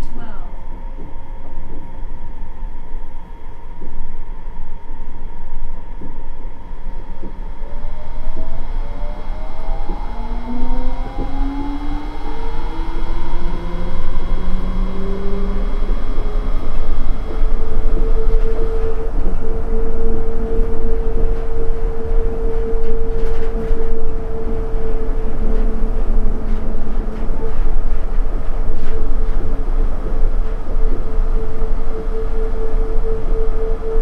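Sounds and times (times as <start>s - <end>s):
train rumbling: 0.0s - 34.0s
train motor whine: 0.9s - 34.0s.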